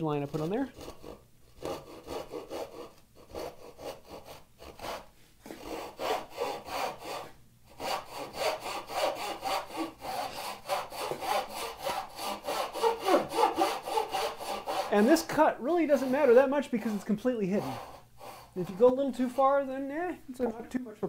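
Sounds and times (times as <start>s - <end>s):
hand saw cutting wood: 0.1s - 19.9s.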